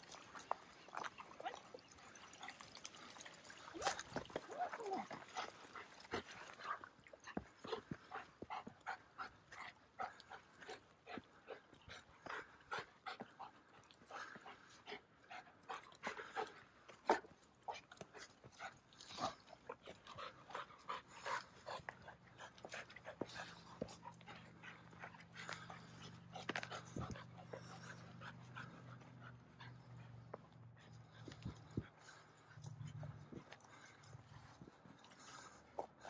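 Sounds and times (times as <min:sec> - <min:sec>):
dog panting: 0:00.0 - 0:36.0.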